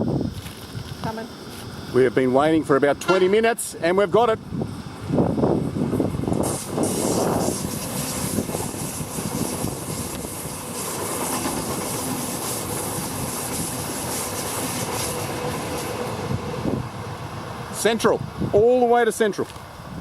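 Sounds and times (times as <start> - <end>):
train rumble and rail noise: 0.0 - 20.0.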